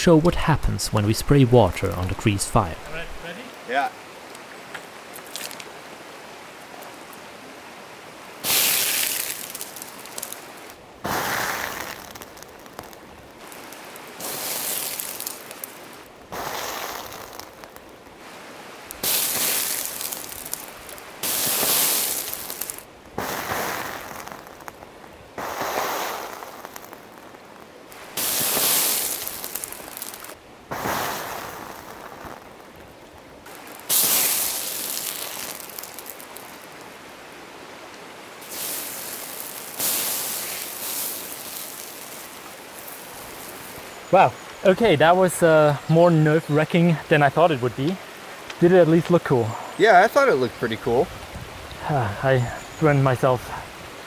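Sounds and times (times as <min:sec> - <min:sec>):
burning wax hissing and crackling: 0:01.8 - 0:54.0.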